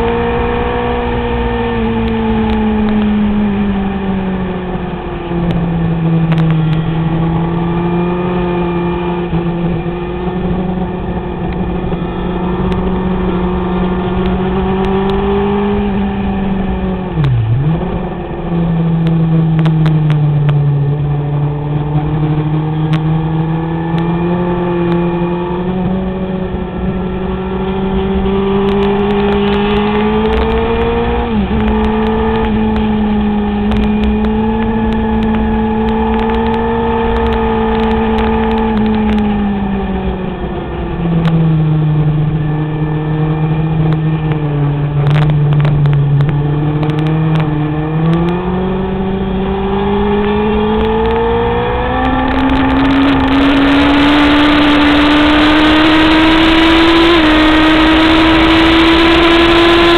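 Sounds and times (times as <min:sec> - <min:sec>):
motorcycle engine revving high: 0:00.0 - 0:59.9.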